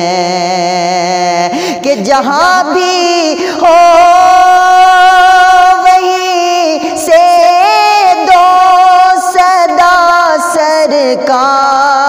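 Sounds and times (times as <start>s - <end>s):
man singing high ornamented notes: 0.0s - 12.0s.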